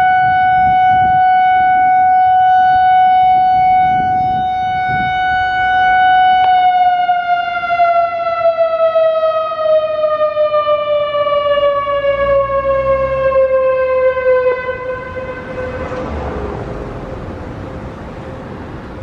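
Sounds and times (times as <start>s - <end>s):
electronic warning siren: 0.0s - 17.6s.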